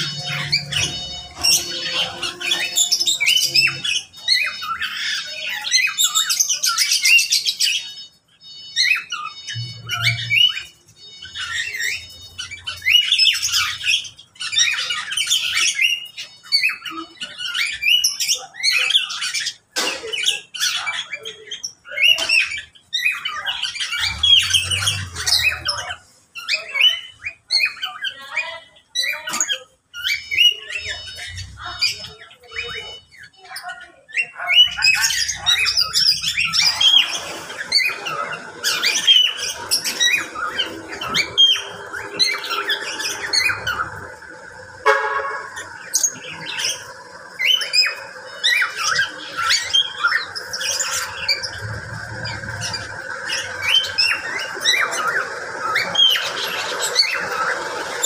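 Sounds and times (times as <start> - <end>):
birds squawking and whistling: 0.0 - 58.0.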